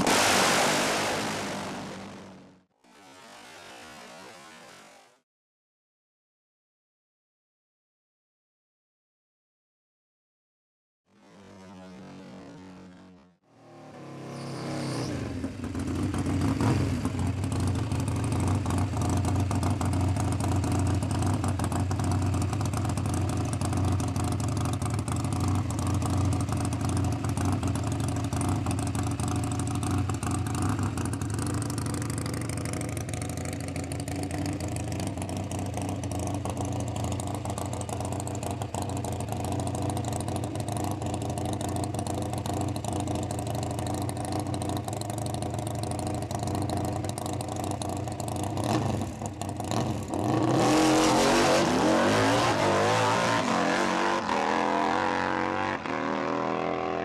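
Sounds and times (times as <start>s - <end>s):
motorcycle tyre burnout: 0.0s - 5.2s, 11.1s - 57.0s
motorcycle engine running loud: 11.1s - 57.0s.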